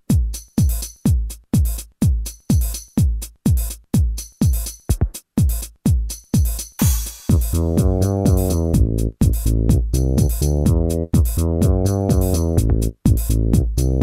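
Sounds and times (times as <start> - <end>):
bright hi-hat hits: 0.0 - 14.0
drum machine kick drum: 0.0 - 14.0.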